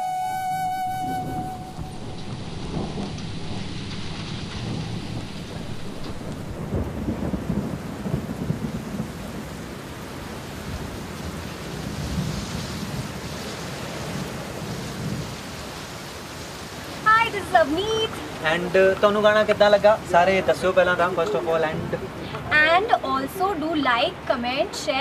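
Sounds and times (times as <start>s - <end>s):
low rolling thunder: 0.0s - 22.7s
steady rain: 0.0s - 25.0s.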